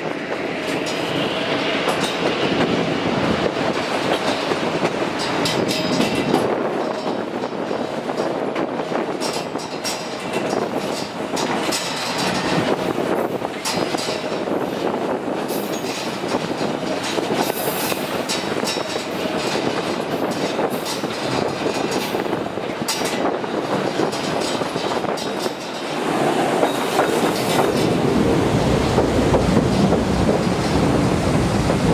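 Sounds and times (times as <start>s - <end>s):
train wheels rumbling and clicking: 0.0s - 31.9s.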